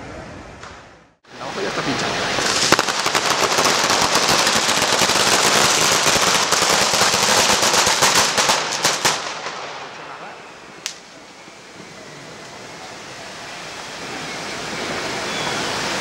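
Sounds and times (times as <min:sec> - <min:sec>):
firecrackers crackling: 0:00.6 - 0:16.0
fountain fireworks hissing: 0:01.3 - 0:16.0.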